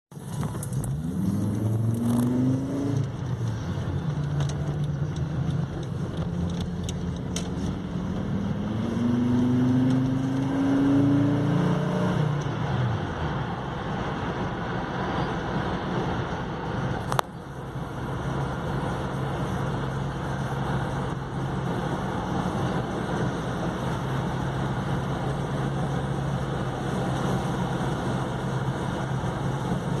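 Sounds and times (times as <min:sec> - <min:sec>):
car engine revving and idling: 0:00.2 - 0:30.0.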